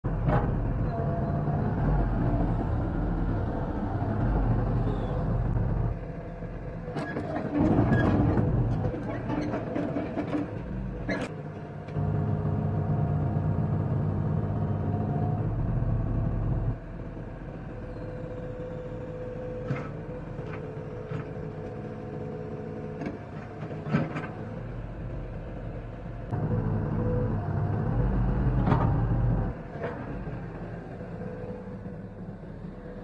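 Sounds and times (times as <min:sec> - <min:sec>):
excavator diesel engine running: 0:00.1 - 0:33.0.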